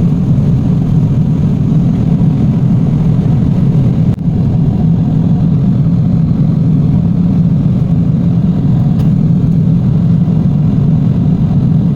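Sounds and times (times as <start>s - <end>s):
airliner engines rumbling: 0.0s - 11.9s.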